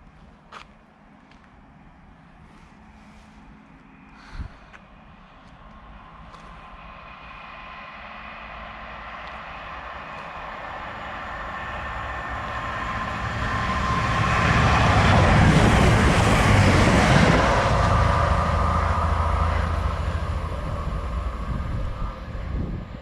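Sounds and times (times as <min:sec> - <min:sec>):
rumbling wheel and wind noise: 0:00.0 - 0:23.0
train passing: 0:00.9 - 0:23.0.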